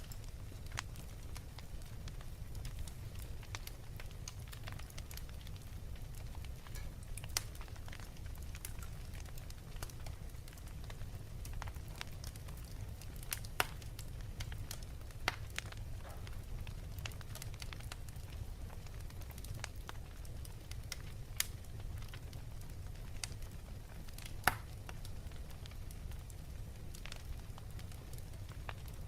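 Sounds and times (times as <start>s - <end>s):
sharp pops of fire: 0.0s - 29.0s
wood fire crackling: 0.0s - 29.0s.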